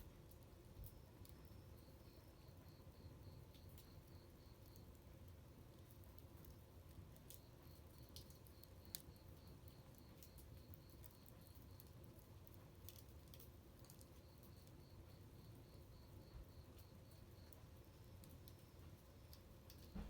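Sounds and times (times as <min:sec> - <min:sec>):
wood bonfire crackling: 0:00.0 - 0:20.0
insect chirping: 0:00.4 - 0:20.0.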